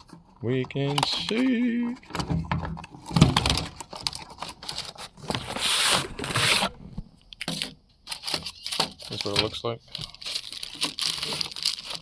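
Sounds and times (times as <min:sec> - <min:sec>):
packaging scraping and rustling: 0:00.0 - 0:12.0.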